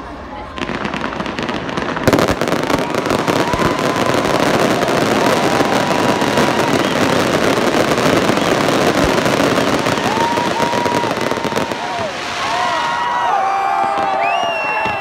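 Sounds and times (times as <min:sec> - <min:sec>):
fireworks crackling and popping: 0:00.3 - 0:15.0
firework whistle: 0:02.1 - 0:15.0.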